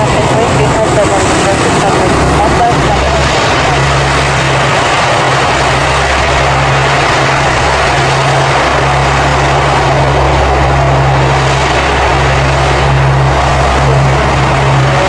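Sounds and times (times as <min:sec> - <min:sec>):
turboprop engines roaring: 0:00.0 - 0:15.0.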